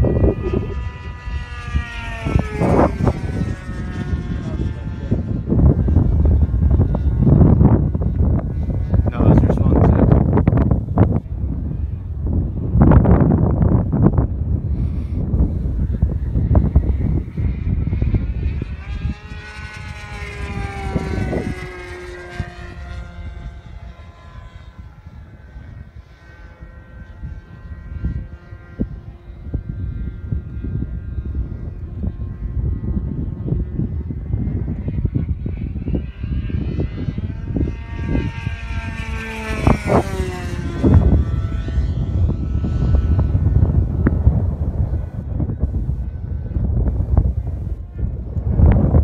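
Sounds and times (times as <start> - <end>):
model plane engine whine: 0.0 - 49.0
wind buffeting microphone: 0.0 - 49.0.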